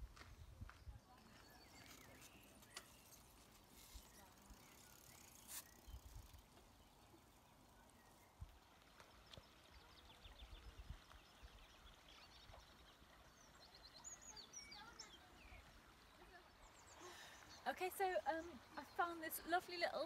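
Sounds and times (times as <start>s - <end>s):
faint birdsong: 0.0s - 20.0s.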